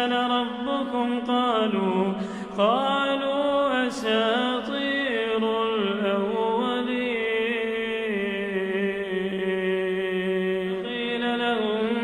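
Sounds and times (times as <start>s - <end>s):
man chanting recitation: 0.0s - 12.0s.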